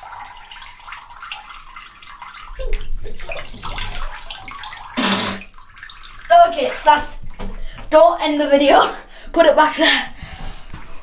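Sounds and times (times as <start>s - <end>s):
water and jelly sloshing in bathtub: 0.0s - 11.0s.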